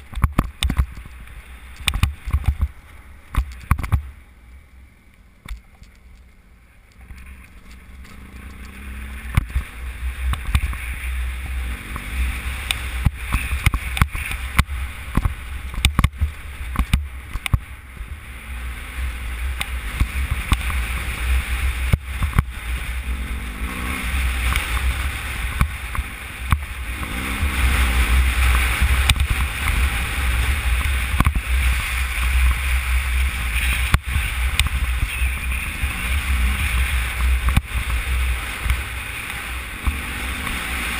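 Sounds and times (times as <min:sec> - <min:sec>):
wind rumble on microphone: 0:00.0 - 0:04.4, 0:05.4 - 0:40.9
motorcycle engine revving: 0:07.0 - 0:40.9.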